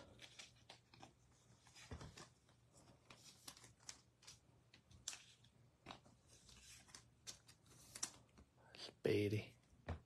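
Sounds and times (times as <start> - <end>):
trading cards flicking and rustling: 0.0 - 8.5.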